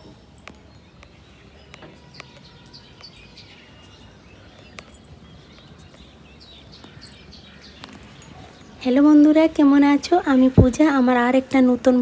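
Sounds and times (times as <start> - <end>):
faint steady background noise: 0.0 - 12.0
small birds chirping: 0.0 - 12.0.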